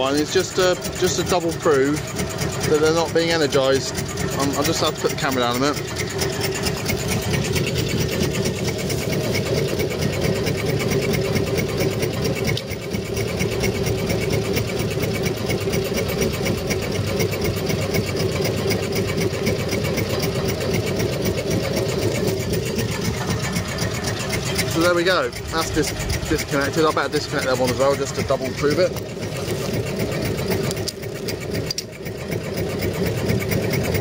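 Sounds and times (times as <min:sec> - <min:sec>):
engine mechanical clatter: 0:00.0 - 0:34.0.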